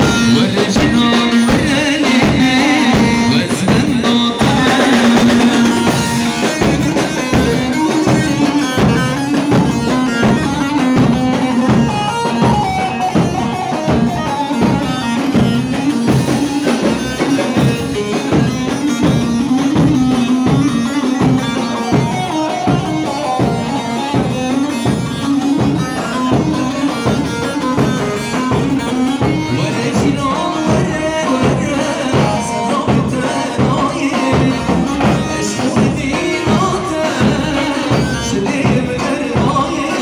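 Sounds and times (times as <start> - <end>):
bass drum beating: 0.0 - 40.0.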